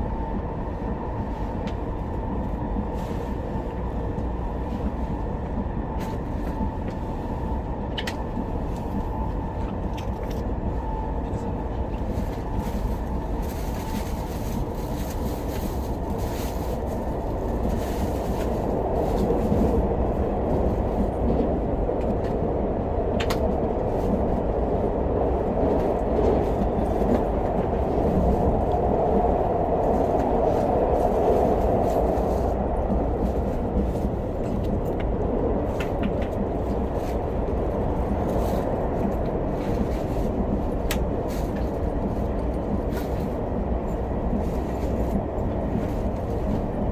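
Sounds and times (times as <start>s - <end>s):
train cabin rumble: 0.0s - 46.9s.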